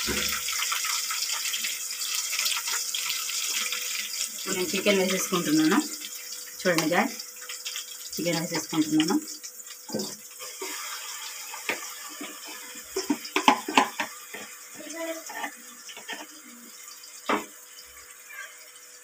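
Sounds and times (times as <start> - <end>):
onions sizzling in oil: 0.0 - 19.0.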